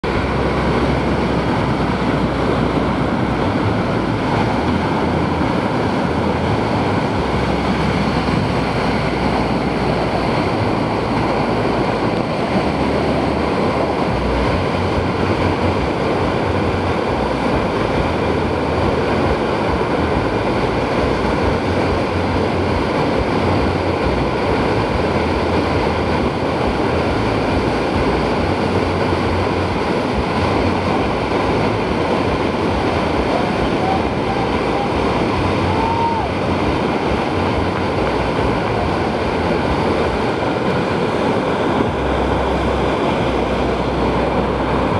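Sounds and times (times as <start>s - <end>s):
rush of water over ramp: 0.0s - 44.9s.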